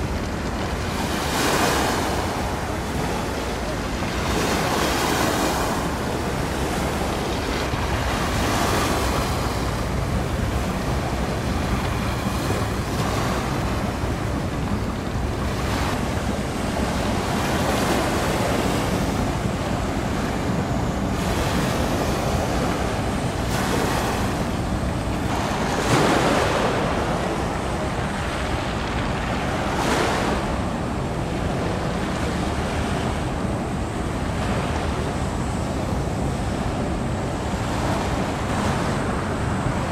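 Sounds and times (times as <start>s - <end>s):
choppy sea water washing: 0.0s - 39.9s
wind blowing over microphone: 0.0s - 39.9s.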